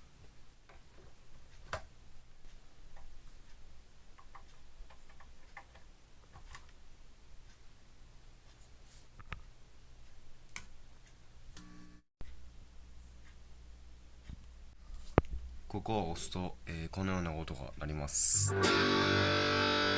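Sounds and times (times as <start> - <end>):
low room hum: 0.0 - 18.5.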